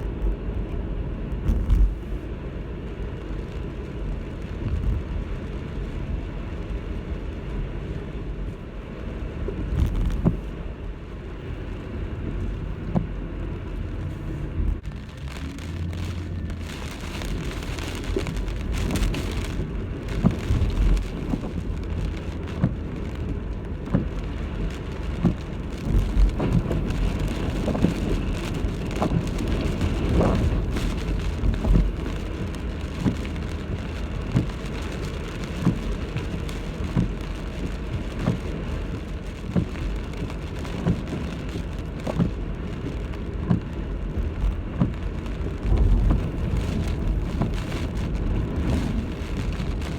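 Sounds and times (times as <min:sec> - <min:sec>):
heavy rain beating on surface: 0:00.0 - 0:49.9
low rumble of storm wind: 0:00.0 - 0:49.9.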